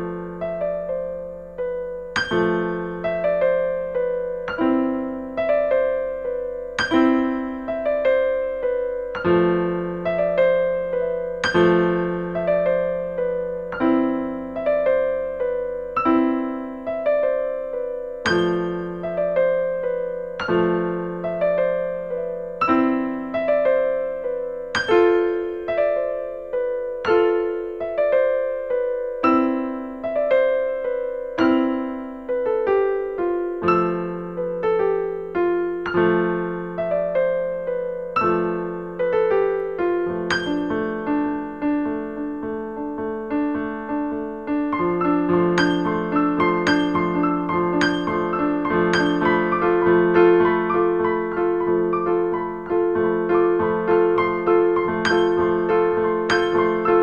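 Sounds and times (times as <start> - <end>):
solo piano broken chords: 0.0 - 57.0.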